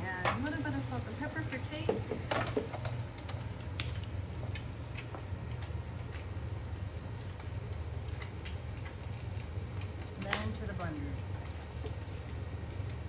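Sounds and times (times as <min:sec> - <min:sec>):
fish sizzling in a pan: 0:00.0 - 0:13.0
low steady hum: 0:00.0 - 0:13.0.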